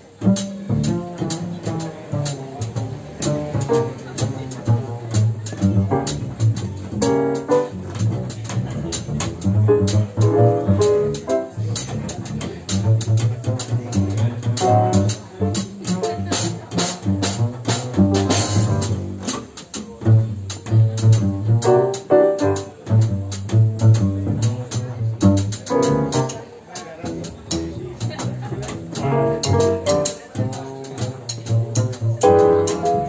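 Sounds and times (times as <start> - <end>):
drums with cymbal strokes: 0.0 - 33.0
piano: 0.0 - 33.0
plucked double bass: 0.0 - 33.0.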